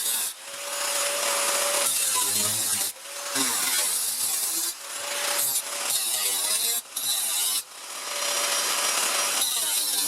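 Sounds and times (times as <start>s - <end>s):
tool cutting sheet steel: 0.0s - 10.0s.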